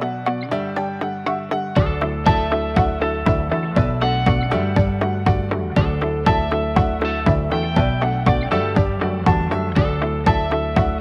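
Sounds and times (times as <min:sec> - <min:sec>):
deep bass: 0:00.0 - 0:11.0.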